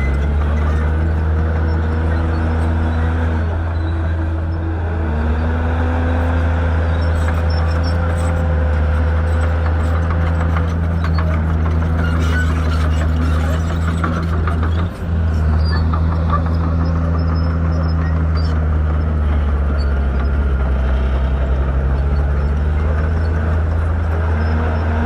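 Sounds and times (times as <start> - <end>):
bulldozer diesel engine drone: 0.0 - 25.0.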